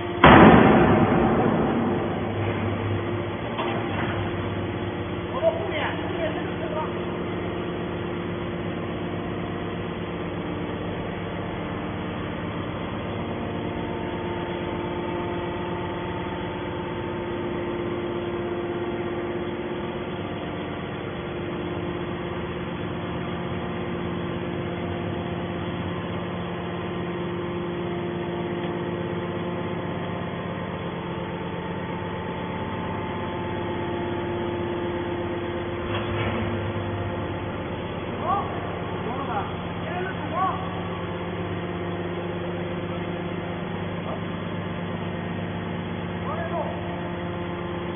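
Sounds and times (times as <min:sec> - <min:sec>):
hydraulic machine hum: 0:00.0 - 0:47.9.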